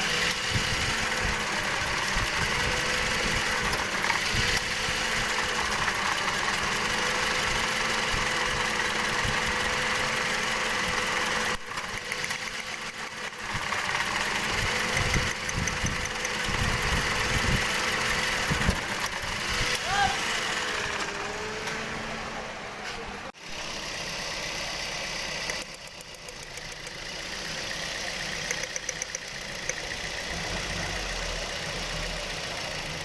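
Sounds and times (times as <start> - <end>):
engine idling unevenly: 0.0 - 33.0.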